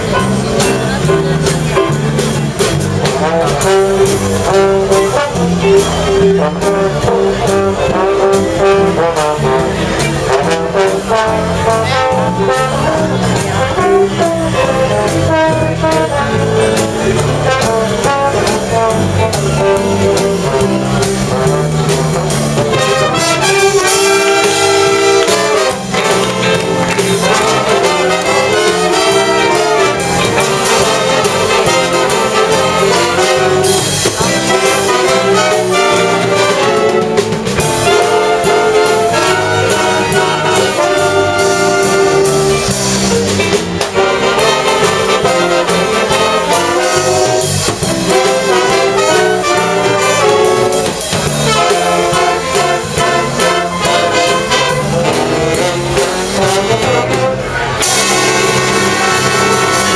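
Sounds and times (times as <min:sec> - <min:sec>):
big band jazz: 0:00.0 - 0:59.9.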